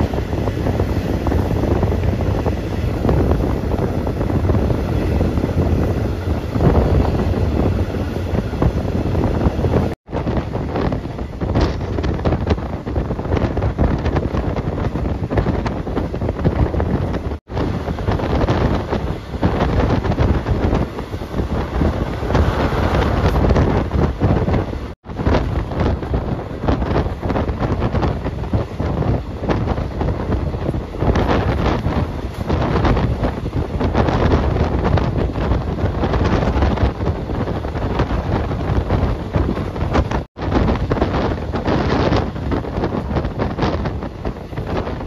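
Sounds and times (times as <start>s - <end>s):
vehicle rumble: 0.0s - 45.0s
wind buffeting microphone: 0.0s - 45.0s.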